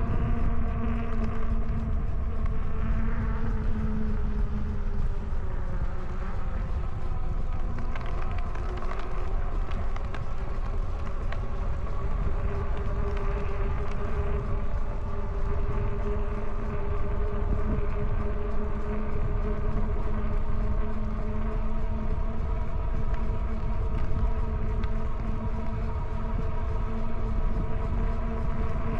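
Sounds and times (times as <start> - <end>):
wind rumble on microphone: 0.0 - 28.9.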